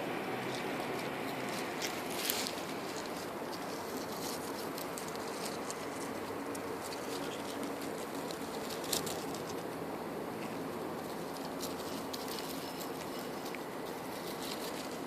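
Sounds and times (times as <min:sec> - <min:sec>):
light ticks and crackles: 0:00.4 - 0:09.8, 0:10.4 - 0:15.0.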